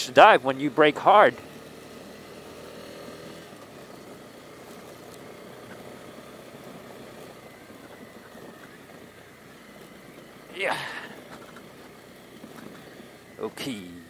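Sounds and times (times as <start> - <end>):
motorcycle engine running: 0.0 - 14.0
tyres on gravel: 0.0 - 14.0.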